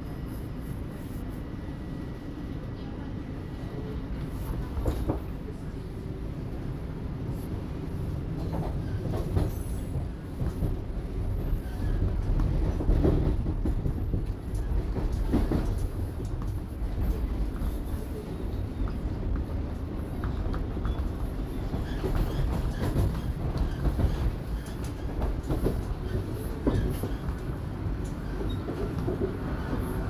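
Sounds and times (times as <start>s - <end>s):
subway train rumble: 0.0s - 30.0s.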